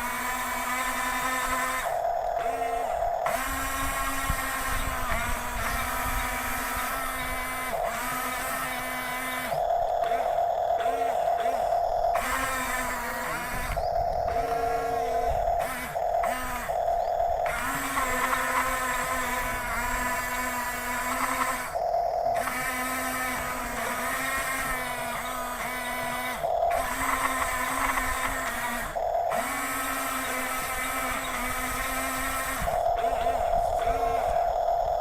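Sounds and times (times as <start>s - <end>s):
higher hum: 0.0s - 35.0s
toy vehicle motors whining: 0.0s - 35.0s.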